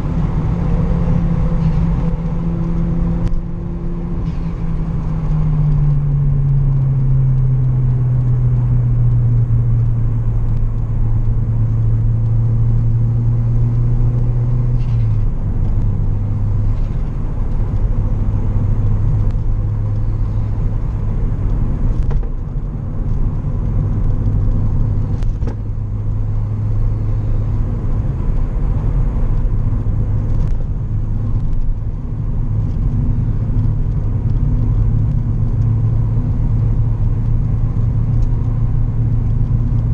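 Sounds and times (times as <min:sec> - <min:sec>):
turbocharged engine droning: 0:00.0 - 0:39.9.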